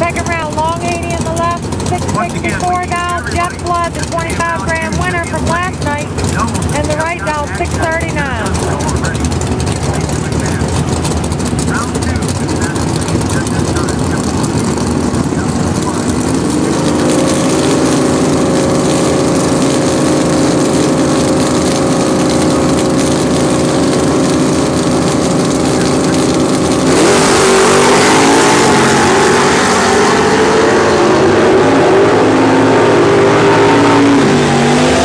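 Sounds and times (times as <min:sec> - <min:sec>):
drag racing car engines revving: 0:00.0 - 0:35.0.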